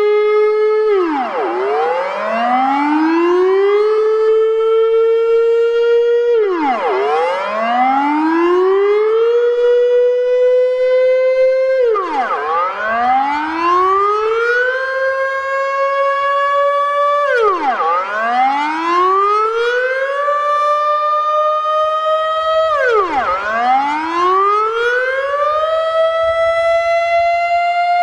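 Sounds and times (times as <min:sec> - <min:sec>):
civil defense warning siren: 0:00.0 - 0:28.0.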